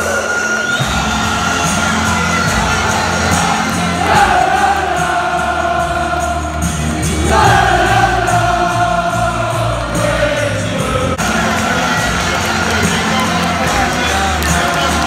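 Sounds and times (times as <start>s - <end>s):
stadium crowd singing: 0.0s - 15.0s.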